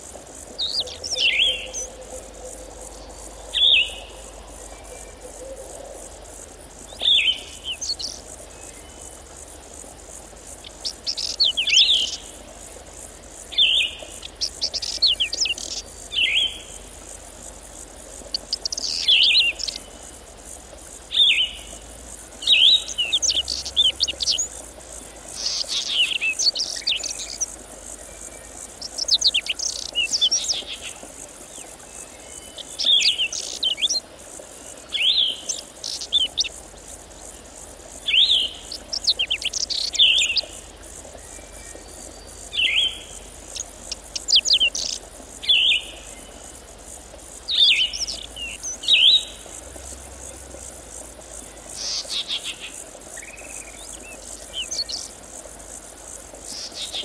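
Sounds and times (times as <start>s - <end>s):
faint insects chirring: 0.0s - 57.0s
songbird chirping: 0.4s - 16.8s, 18.2s - 55.2s.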